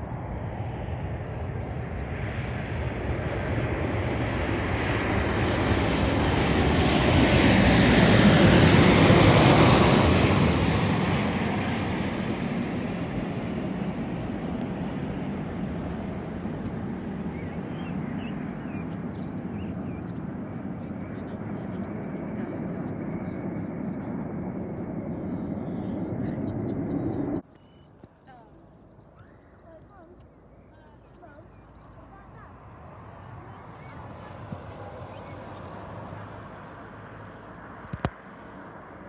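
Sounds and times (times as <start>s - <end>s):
plane passing overhead: 0.0s - 39.0s.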